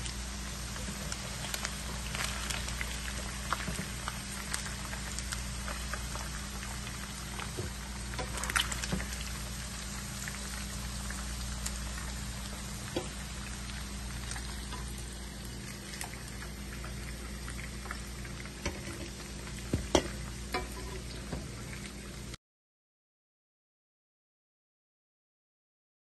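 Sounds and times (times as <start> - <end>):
chicken sizzling in oil: 0.0 - 22.4.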